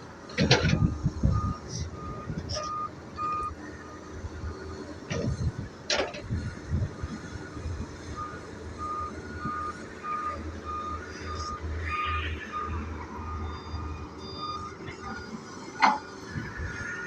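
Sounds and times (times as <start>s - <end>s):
heavy machine engine running: 0.0s - 17.0s
reversing alarm beeping: 0.6s - 17.0s.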